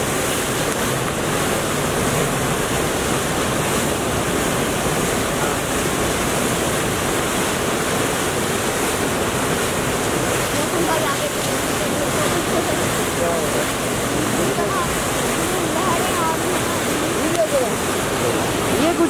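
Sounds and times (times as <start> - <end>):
canal water rushing: 0.0 - 19.0.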